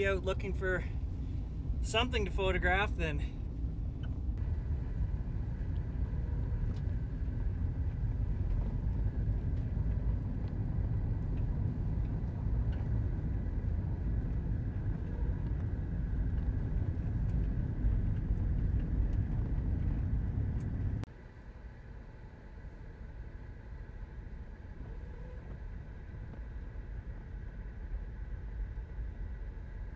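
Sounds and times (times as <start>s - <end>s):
engine and tyres rumbling: 0.0s - 29.9s.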